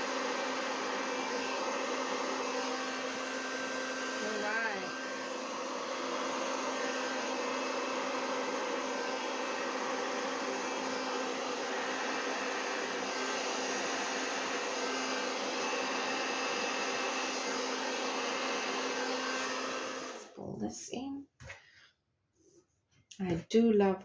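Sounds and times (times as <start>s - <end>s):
hair dryer running: 0.0s - 20.4s.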